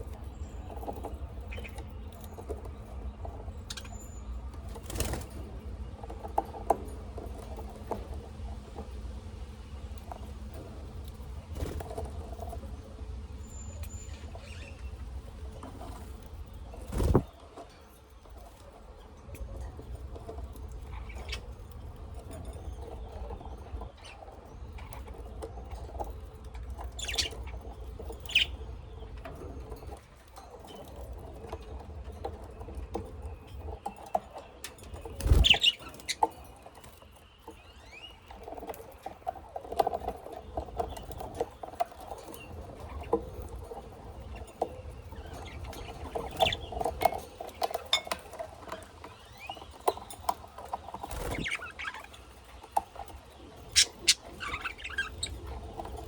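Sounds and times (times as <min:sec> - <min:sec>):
bird feet and beaks scratching: 0:00.0 - 0:56.0.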